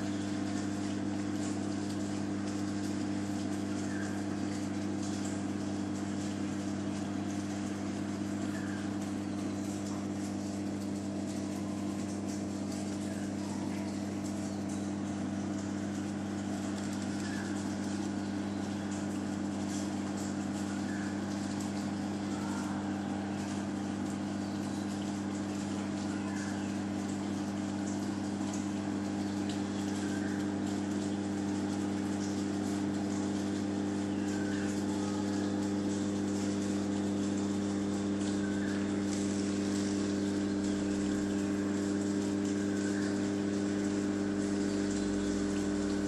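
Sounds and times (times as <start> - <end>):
low electrical hum: 0.0 - 46.0.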